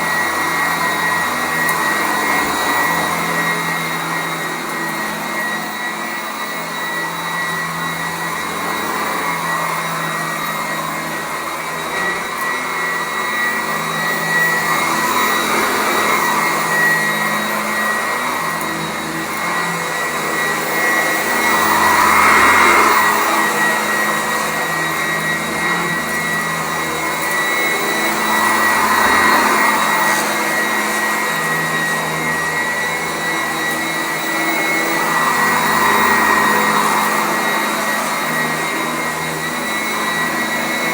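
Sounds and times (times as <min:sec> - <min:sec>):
upright vacuum cleaner on carpet: 0:00.0 - 0:40.9.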